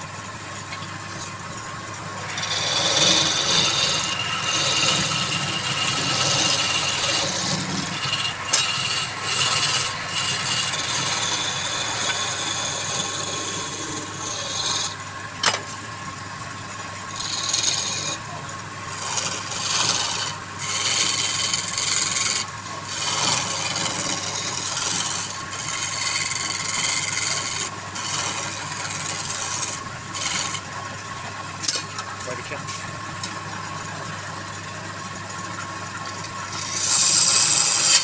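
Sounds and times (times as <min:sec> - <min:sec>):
lathe humming: 0:00.0 - 0:15.2, 0:16.9 - 0:32.6, 0:36.2 - 0:38.0
tool scraping spinning wood: 0:00.7 - 0:15.6, 0:17.1 - 0:32.9, 0:36.0 - 0:38.0.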